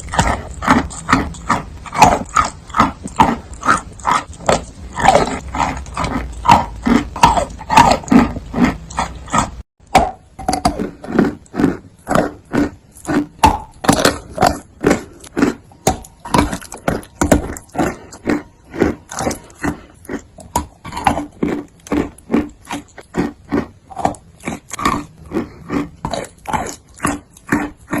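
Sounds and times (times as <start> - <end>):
chewing crunching mouth sounds: 0.0 - 28.0.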